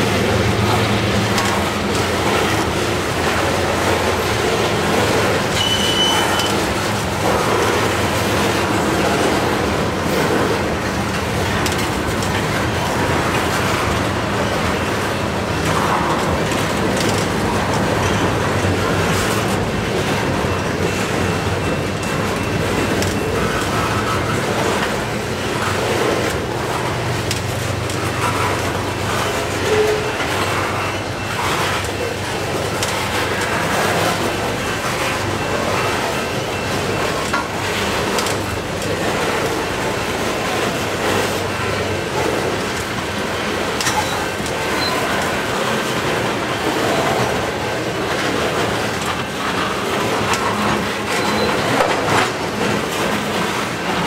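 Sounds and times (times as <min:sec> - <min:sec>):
clickety-clack of rail joints: 0:00.0 - 0:54.0
steel wheels on rails: 0:00.0 - 0:54.0.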